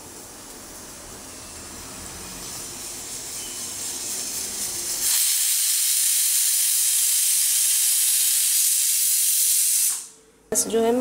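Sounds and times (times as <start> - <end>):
pressure cooker hissing: 0.0 - 10.2
pressure cooker whistle steam jet: 1.2 - 10.2.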